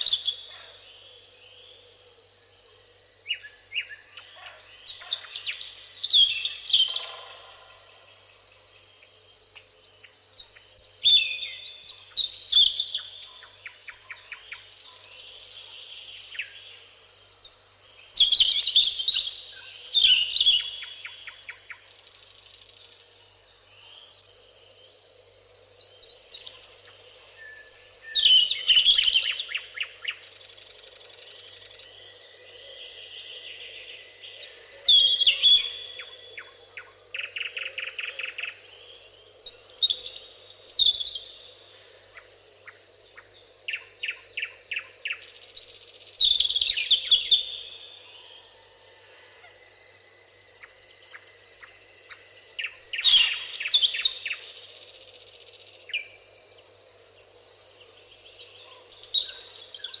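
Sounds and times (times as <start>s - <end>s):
faint background hiss: 0.0s - 60.0s
songbirds singing: 0.0s - 60.0s.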